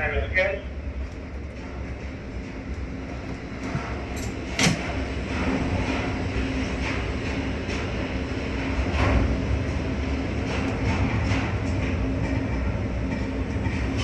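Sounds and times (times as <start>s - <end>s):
crane machinery rumble and hum: 0.0s - 14.0s.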